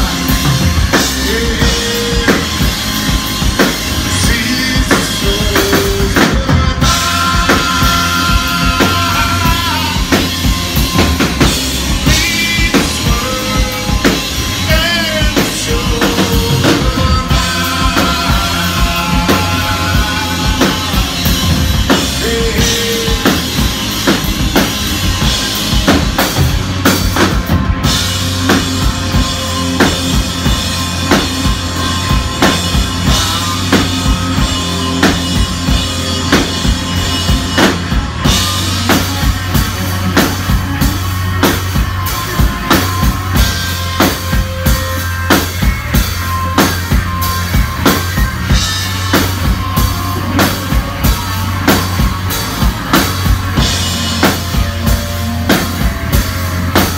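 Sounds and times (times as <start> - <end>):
bass guitar: 0.0 - 56.9
electric guitars: 0.0 - 56.9
rock band playing: 0.0 - 56.9.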